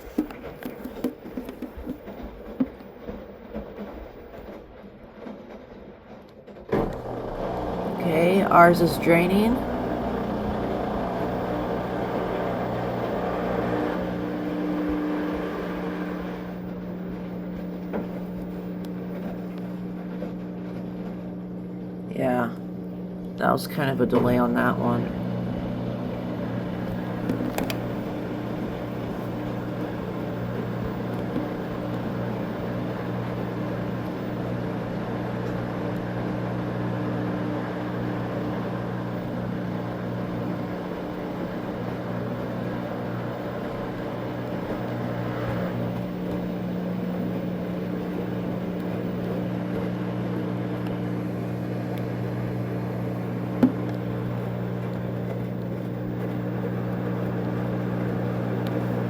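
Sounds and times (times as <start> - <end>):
washing machine drain pump humming: 0.0 - 4.5, 6.7 - 59.0.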